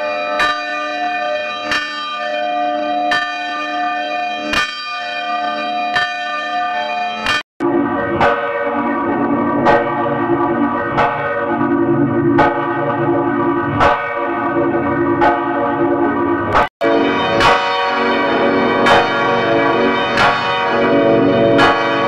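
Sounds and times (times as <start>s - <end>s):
church bell tolling: 0.0s - 22.0s.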